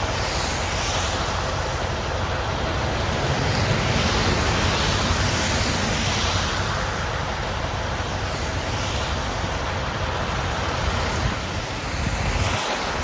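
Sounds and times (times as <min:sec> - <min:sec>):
truck engine drone: 0:00.0 - 0:11.8
tire and wind noise: 0:00.0 - 0:13.0.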